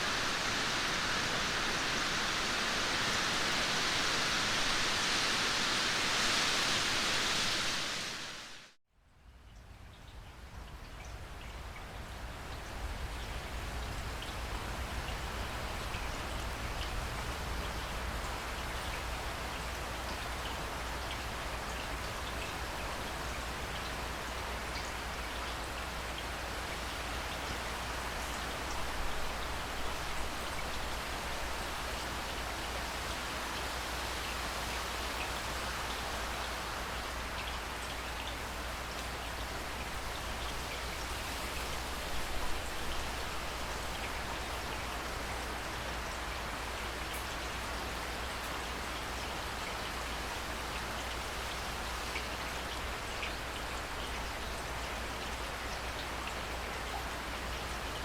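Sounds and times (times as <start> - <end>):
steady rain hiss: 0.0 - 8.8, 9.7 - 58.0
raindrops ticking on a surface: 9.2 - 58.0.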